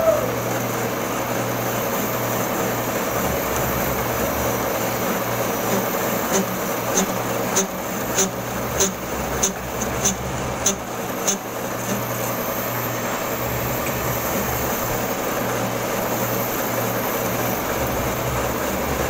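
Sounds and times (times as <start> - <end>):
lathe humming and hissing: 0.0 - 19.0.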